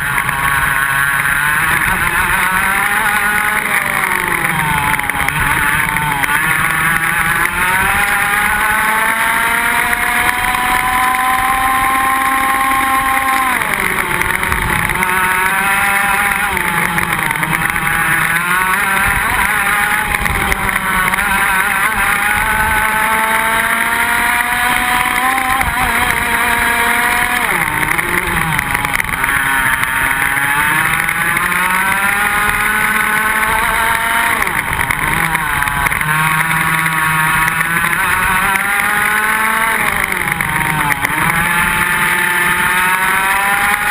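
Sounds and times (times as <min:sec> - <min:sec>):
kart engine revving: 0:00.0 - 0:43.9.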